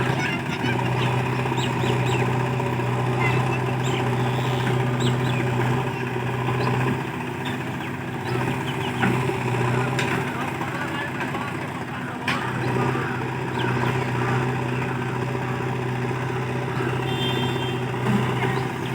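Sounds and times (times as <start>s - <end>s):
heavy machinery diesel engine running: 0.0s - 18.9s.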